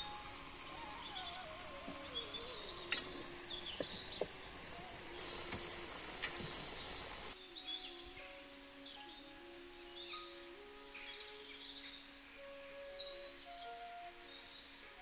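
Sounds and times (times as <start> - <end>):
birds chirping: 0.0 - 14.8
high insect drone: 0.0 - 15.0.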